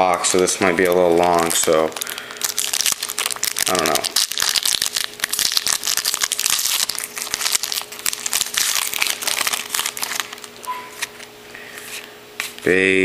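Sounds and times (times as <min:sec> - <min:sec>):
foil wrapper crinkling: 0:00.0 - 0:12.6.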